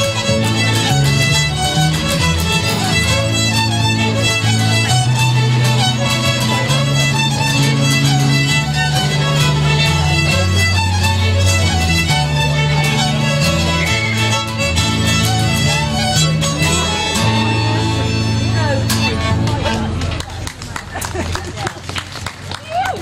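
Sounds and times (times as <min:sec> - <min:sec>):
keyboard sustained low notes: 0:00.0 - 0:20.5
acoustic guitar: 0:00.0 - 0:21.3
fiddles playing lively tune: 0:00.0 - 0:23.0.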